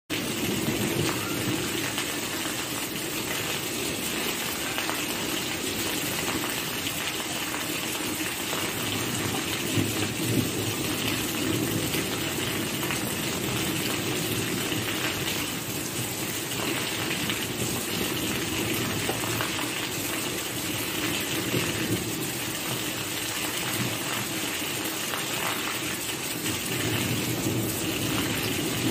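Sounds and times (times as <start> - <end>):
steady rain hiss: 0.2 - 28.9.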